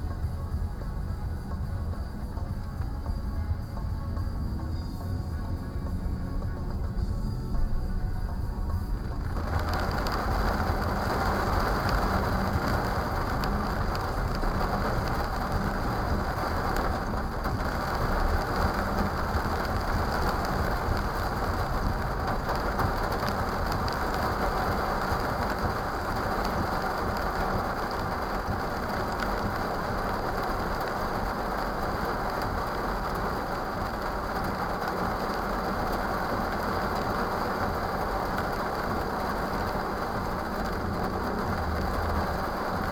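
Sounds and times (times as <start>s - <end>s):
rain on a car: 0.0s - 42.9s.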